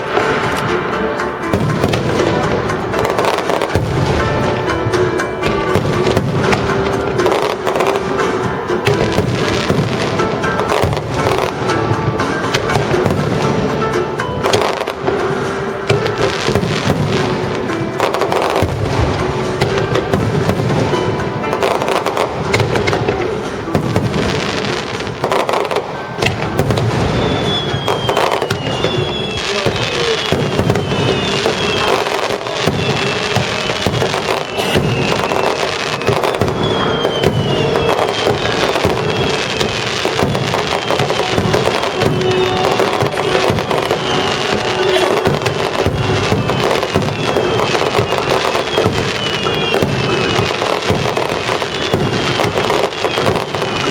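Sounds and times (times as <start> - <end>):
fireworks bangs and crackles: 0.0 - 53.9
orchestral music on loudspeakers: 0.0 - 53.9.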